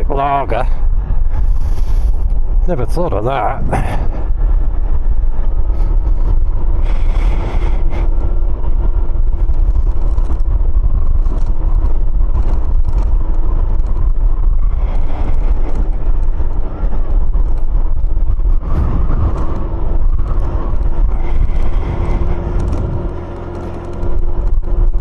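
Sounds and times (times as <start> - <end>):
wind buffeting microphone: 0.0 - 25.0
scooter engine running: 4.0 - 25.0.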